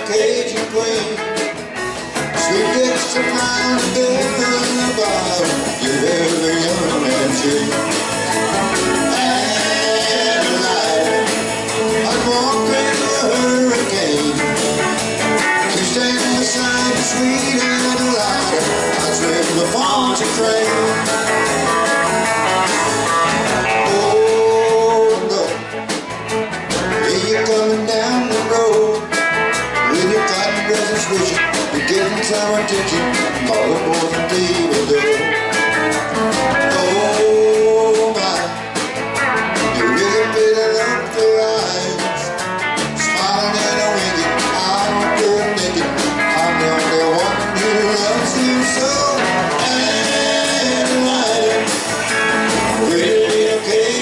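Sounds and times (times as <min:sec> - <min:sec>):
bass guitar: 0:00.0 - 0:54.0
drum kit: 0:00.0 - 0:54.0
electric guitars: 0:00.0 - 0:54.0
guitar lead with bending notes: 0:00.0 - 0:54.0
live rock band playing: 0:00.0 - 0:54.0.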